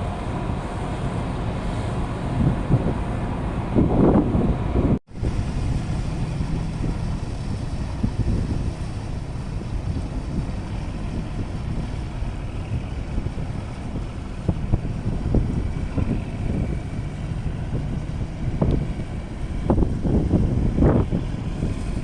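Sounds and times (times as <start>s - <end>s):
low steady rumble: 0.0s - 22.0s
wind buffeting microphone: 0.0s - 22.0s.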